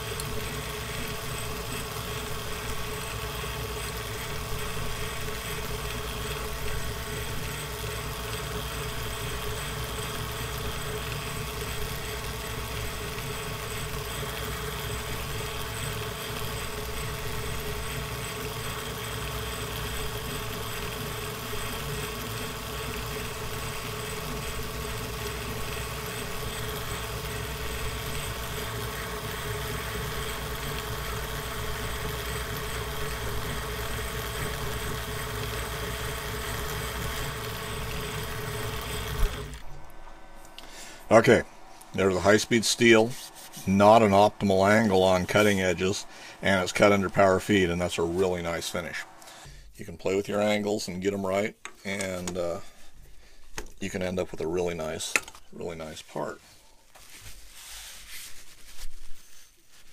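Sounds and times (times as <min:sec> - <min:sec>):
metal lathe cutting steel: 0:00.0 - 0:49.5.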